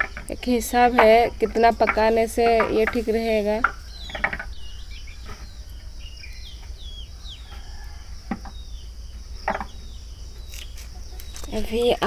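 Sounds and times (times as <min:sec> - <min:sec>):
birds chirping: 0:00.0 - 0:12.0
steady high hiss: 0:00.0 - 0:12.0.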